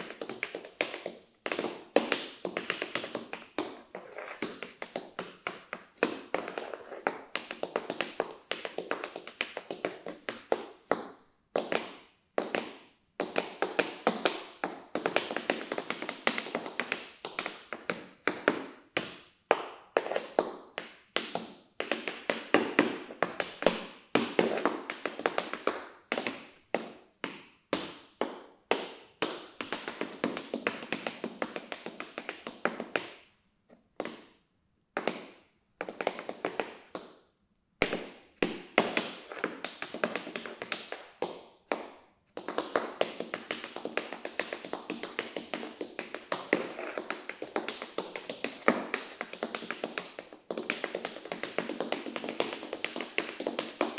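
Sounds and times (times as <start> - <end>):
tap shoes striking floor: 0.0 - 34.3, 35.0 - 37.1, 37.8 - 53.9.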